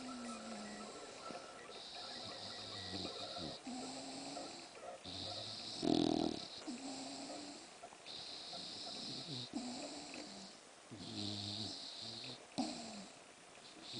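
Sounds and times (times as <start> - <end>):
dog snoring: 0.0 - 13.9.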